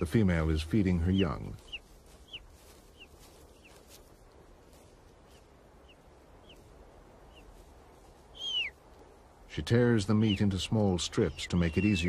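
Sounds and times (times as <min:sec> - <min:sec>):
eagle chicks begging calls: 0:00.4 - 0:04.1, 0:05.2 - 0:08.8, 0:09.6 - 0:12.0.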